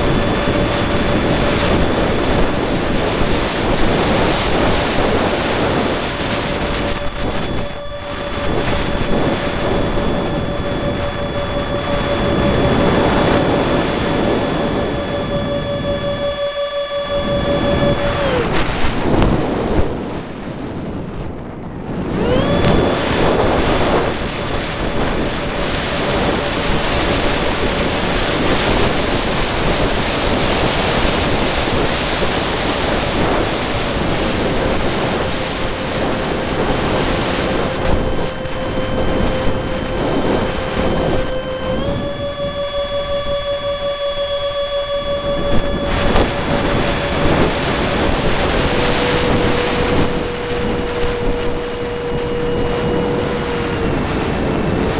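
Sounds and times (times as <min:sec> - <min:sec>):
electric ducted-fan motor whining: 0:00.0 - 0:54.9
wind rumble on microphone: 0:00.0 - 0:54.9.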